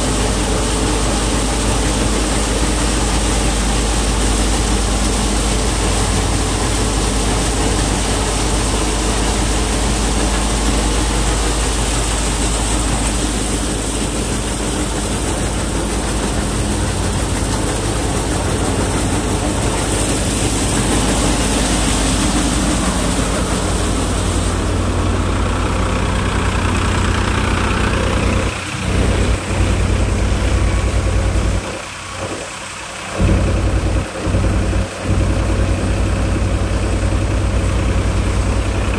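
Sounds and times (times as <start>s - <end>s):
diesel tractor engine running: 0.0s - 38.9s
pouring grain: 0.0s - 38.9s
thresher drums: 0.0s - 38.9s.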